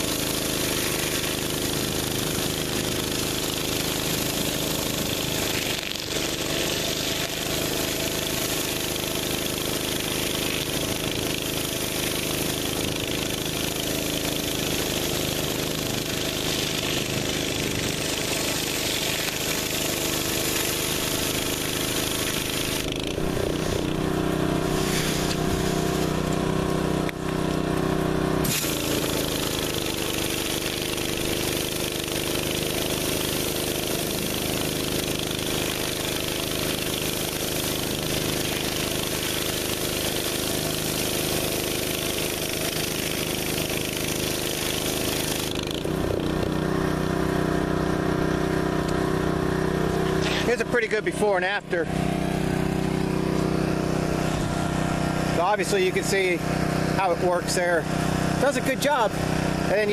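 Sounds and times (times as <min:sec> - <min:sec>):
pressure washer engine running: 0:00.0 - 0:59.9
surface cleaner spraying concrete: 0:00.0 - 0:59.9.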